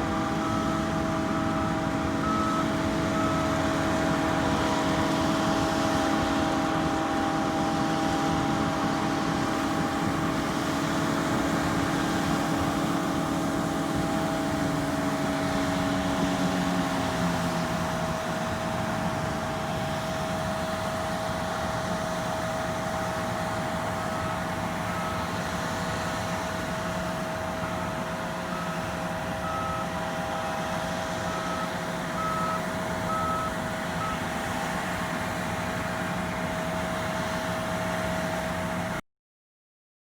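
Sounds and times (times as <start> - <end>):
harvest machinery drone: 0.0 - 39.0.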